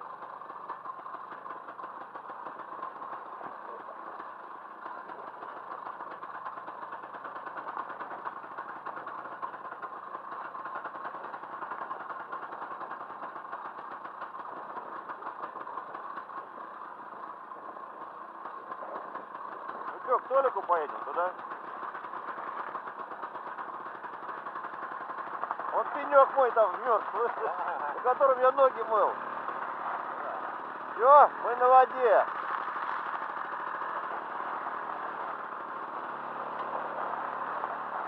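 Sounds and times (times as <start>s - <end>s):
motorcycle engine droning: 0.0s - 38.0s.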